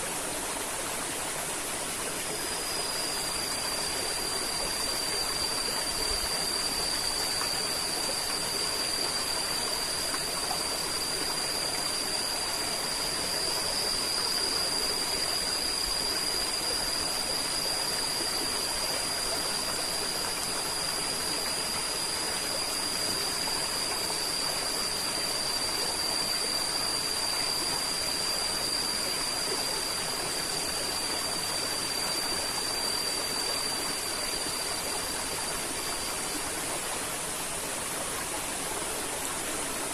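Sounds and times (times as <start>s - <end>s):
thin high tone: 1.0s - 39.6s.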